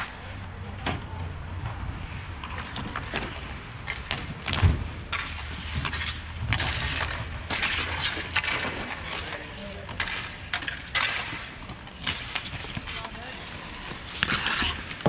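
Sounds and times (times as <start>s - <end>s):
skate wheels rumbling: 0.0s - 15.0s
sticks and puck clacking: 2.1s - 15.0s.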